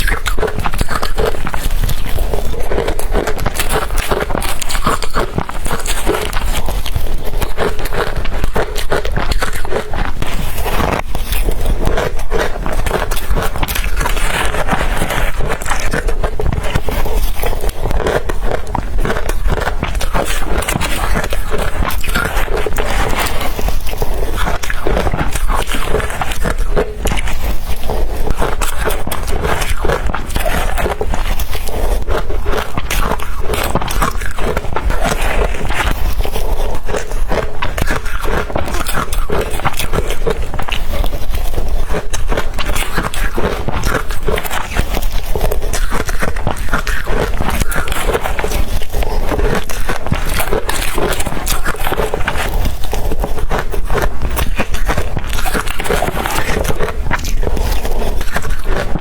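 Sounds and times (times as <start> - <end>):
ice being crunched: 0.0 - 59.0.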